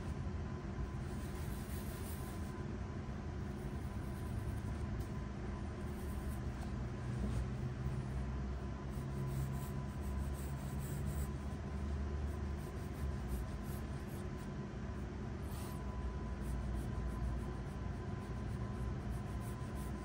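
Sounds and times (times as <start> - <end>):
steady low hum: 0.0 - 20.0
pencil scratching on paper: 1.0 - 2.6, 3.4 - 5.2, 5.8 - 14.6, 15.4 - 20.0.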